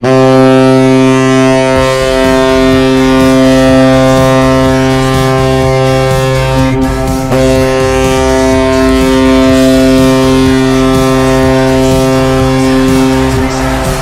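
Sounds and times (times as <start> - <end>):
goal horn blaring: 0.0 - 14.0.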